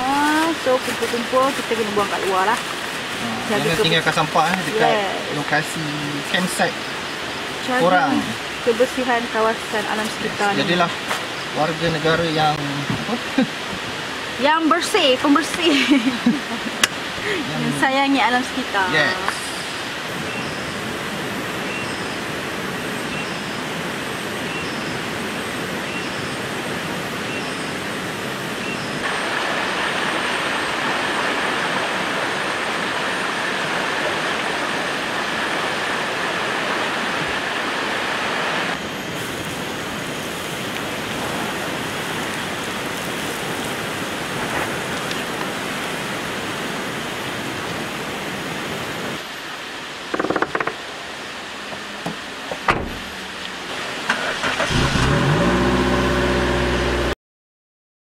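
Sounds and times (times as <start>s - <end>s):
stream and waterfall rushing: 0.0s - 57.1s.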